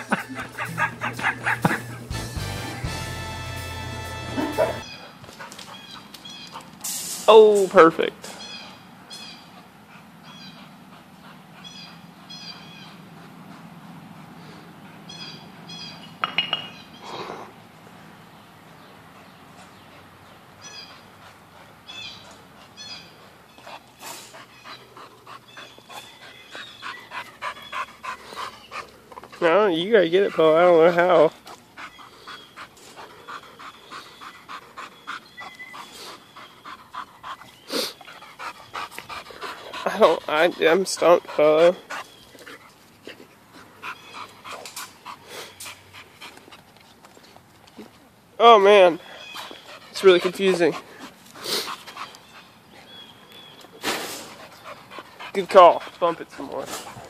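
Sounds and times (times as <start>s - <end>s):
dog panting: 0.0s - 3.0s, 4.4s - 6.8s, 9.4s - 16.1s, 17.2s - 48.0s, 48.6s - 57.0s
birds chirping: 0.0s - 57.0s.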